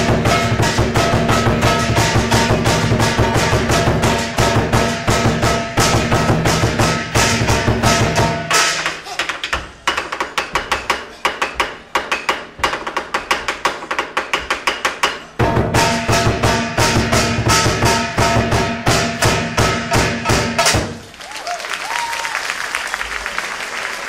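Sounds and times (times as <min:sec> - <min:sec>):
fast percussion music: 0:00.0 - 0:11.6, 0:12.4 - 0:21.1.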